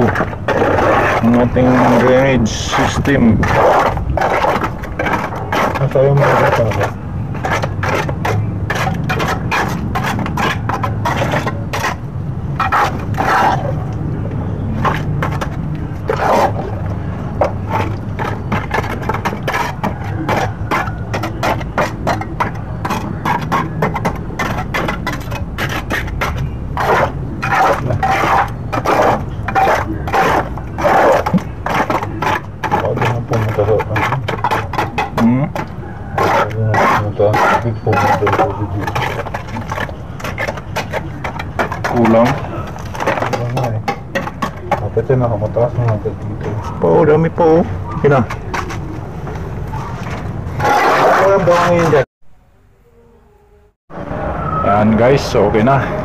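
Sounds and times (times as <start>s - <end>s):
trowel scraping wet mortar: 0.0s - 52.1s.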